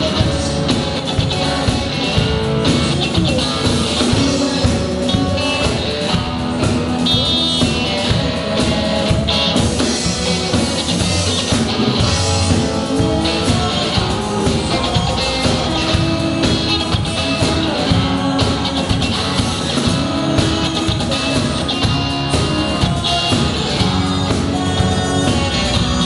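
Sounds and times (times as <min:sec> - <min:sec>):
drum kit: 0:00.0 - 0:26.0
guitar: 0:00.0 - 0:26.0
rock band playing: 0:00.0 - 0:26.0.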